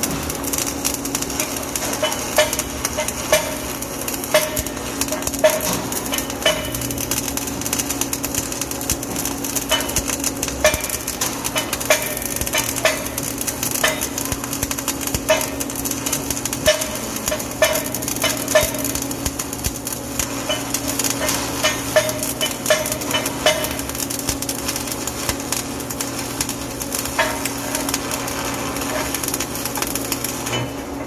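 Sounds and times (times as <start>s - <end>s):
welder hum: 0.0s - 31.0s
welding arc crackling: 0.0s - 31.0s.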